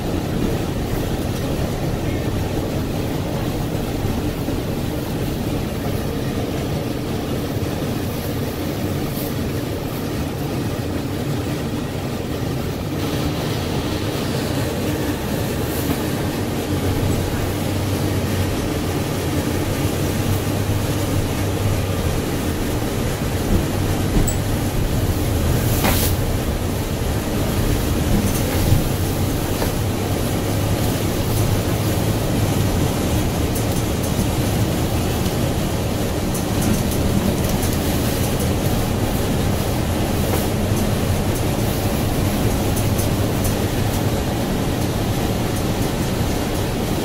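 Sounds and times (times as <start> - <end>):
bus engine hum: 0.0 - 47.0
road and tyre noise: 0.0 - 47.0.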